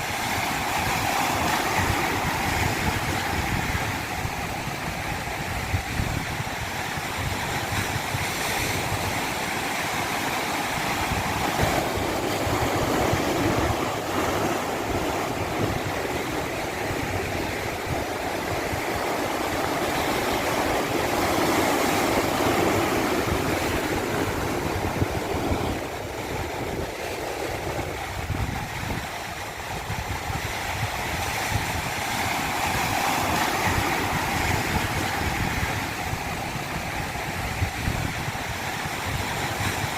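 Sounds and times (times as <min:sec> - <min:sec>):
stream water rushing down cascade: 0:00.0 - 0:39.9.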